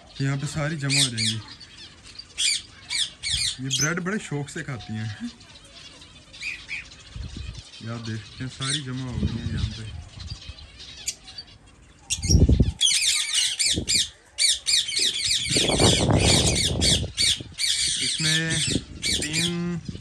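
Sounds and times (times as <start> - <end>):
birds chattering: 0.0 - 20.0.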